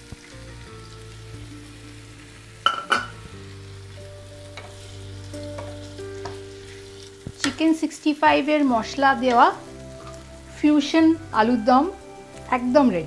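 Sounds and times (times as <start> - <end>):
potatoes sizzling in a pan: 0.0 - 13.0.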